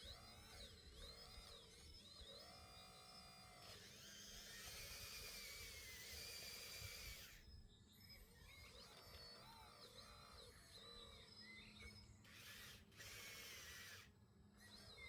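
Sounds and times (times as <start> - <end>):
small electric motor whine: 0.0 - 15.0.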